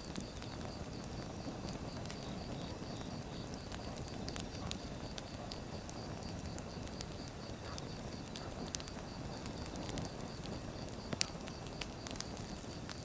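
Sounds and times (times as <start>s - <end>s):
low rumble of flames: 0.0s - 13.0s.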